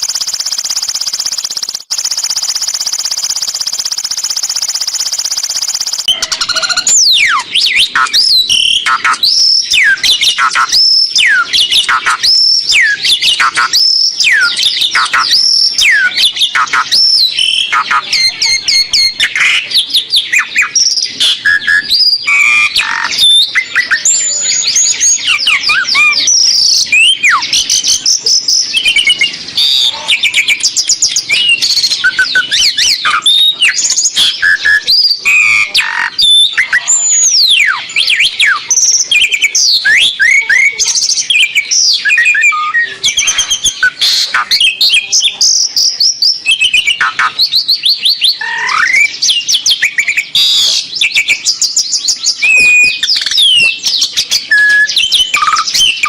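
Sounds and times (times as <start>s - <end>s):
starling singing: 0.0s - 56.0s.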